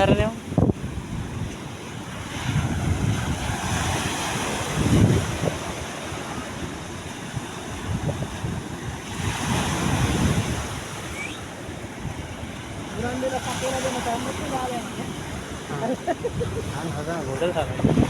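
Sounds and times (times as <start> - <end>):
sea washing: 0.0 - 18.0
wind buffeting microphone: 0.0 - 18.0.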